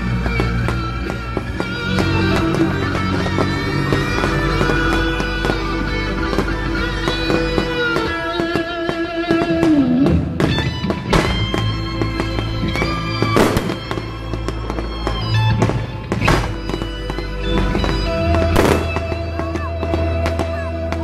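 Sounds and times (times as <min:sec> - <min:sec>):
sharp firework bangs: 0:00.0 - 0:20.7
fireworks bursting: 0:00.0 - 0:21.0
loud show music: 0:00.0 - 0:21.0.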